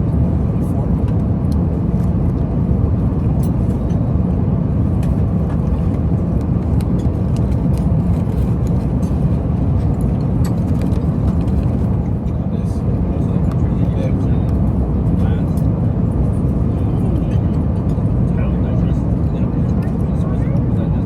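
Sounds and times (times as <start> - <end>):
jet cabin rumble: 0.0 - 21.0.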